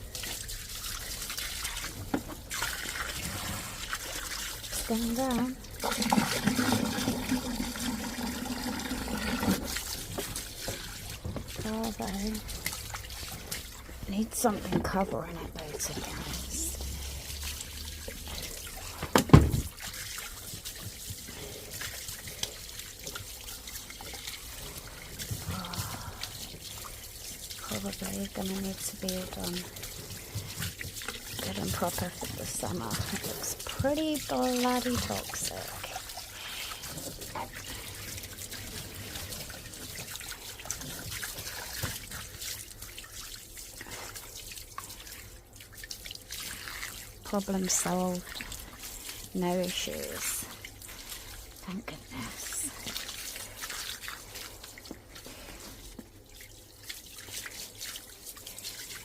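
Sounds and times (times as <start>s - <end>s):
water trickling down drain: 0.0s - 59.0s.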